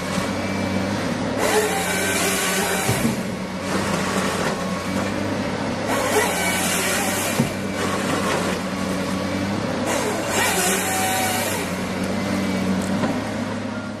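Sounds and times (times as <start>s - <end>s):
harvester head sawing log: 0.0s - 13.2s
engine and hydraulics hum: 0.0s - 14.0s.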